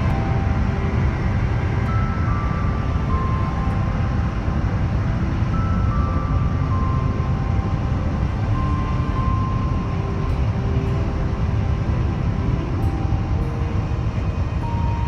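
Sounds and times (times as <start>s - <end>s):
falling three-note melody: 0.0s - 15.0s
vehicle rumble: 0.0s - 15.0s.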